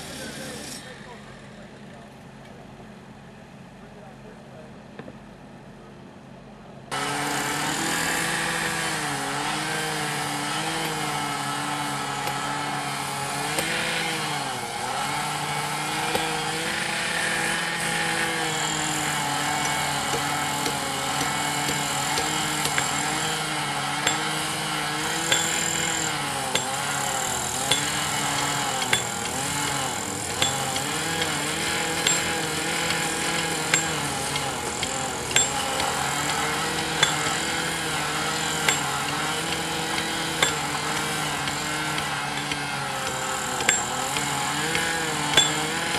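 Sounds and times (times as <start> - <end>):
small engine power tool: 0.0 - 1.2, 6.9 - 45.9.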